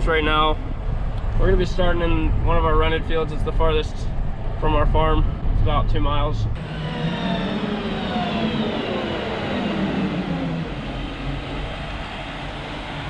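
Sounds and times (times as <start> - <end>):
road noise: 0.0 - 13.0
vehicle engine: 0.0 - 13.0.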